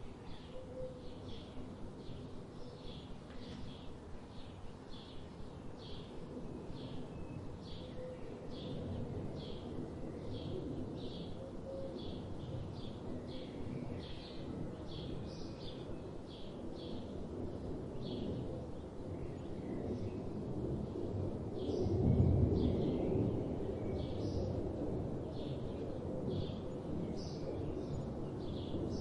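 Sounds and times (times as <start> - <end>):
low background noise: 0.0 - 29.0.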